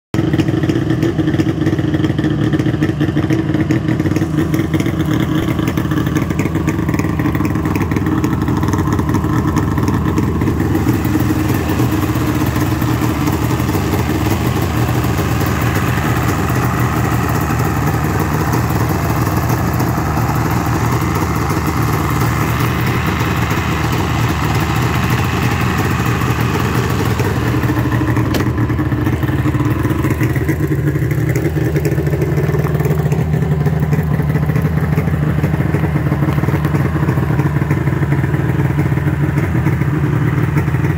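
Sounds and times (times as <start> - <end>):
two-stroke engine idling: 0.2 - 40.9.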